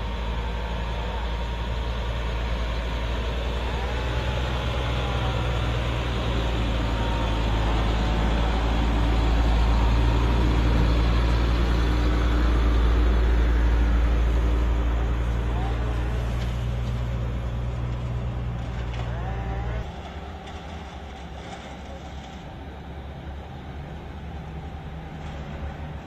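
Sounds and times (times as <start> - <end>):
vehicle engine drone: 0.0 - 26.0.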